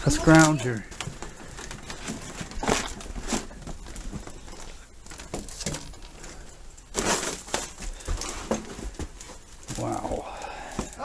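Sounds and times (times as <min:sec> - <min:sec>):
debris crunching and knocking: 0:00.0 - 0:11.0.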